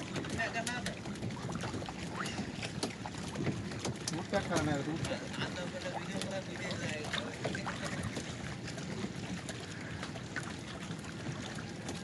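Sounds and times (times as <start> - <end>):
boat knocks: 0.0 - 12.0
water lapping around boats: 0.0 - 12.0.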